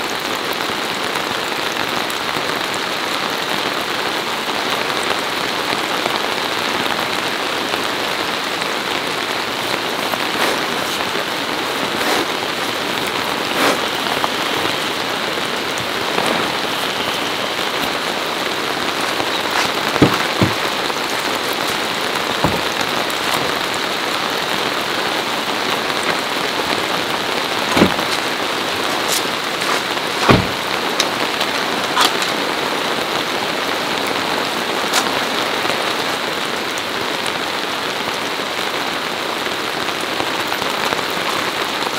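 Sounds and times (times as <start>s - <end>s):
rain on tarp and gravel: 0.0s - 41.9s.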